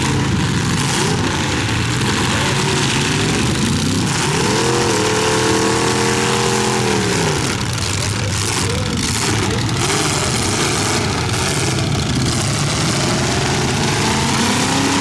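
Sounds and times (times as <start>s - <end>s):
car engines running: 0.0s - 15.0s
engine revving: 0.0s - 15.0s.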